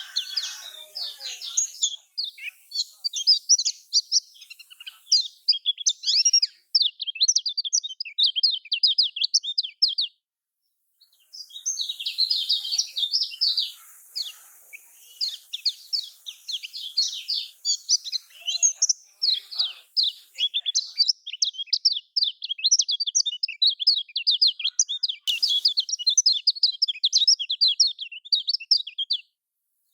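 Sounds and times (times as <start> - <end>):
bird chirping and trilling: 0.0 - 10.0, 11.1 - 29.2.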